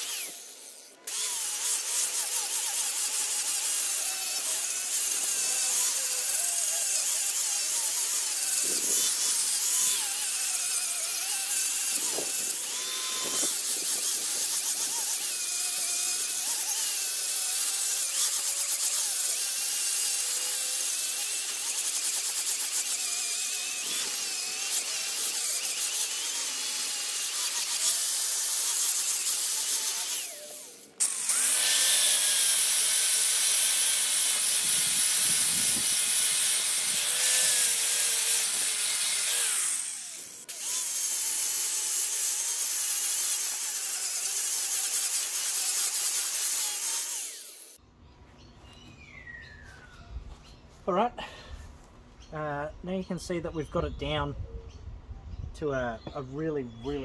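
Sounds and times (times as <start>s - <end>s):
angle grinder sanding wood: 0.0s - 47.8s.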